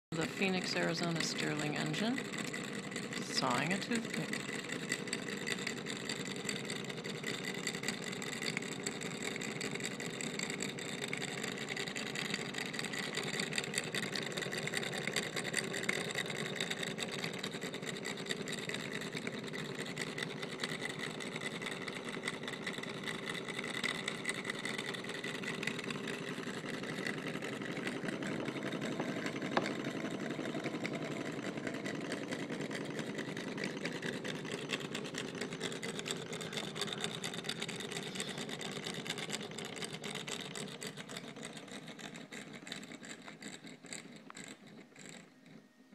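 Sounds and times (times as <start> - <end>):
model engine clattering: 0.1 - 45.9
model hacksaw sawing: 1.0 - 45.6.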